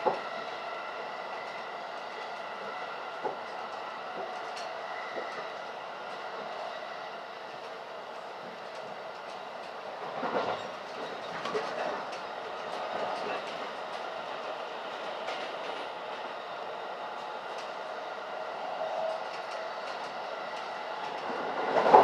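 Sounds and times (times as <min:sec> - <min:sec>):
train rumble and rail noise: 0:00.0 - 0:22.0.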